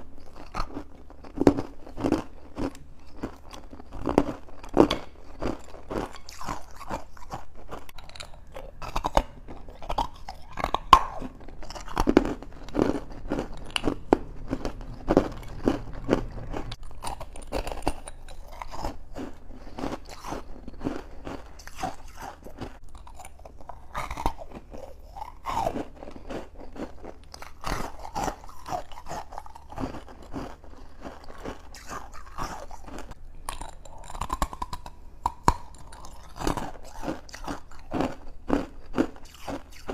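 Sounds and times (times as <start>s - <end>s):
person chewing crunchy ice: 0.0s - 39.9s.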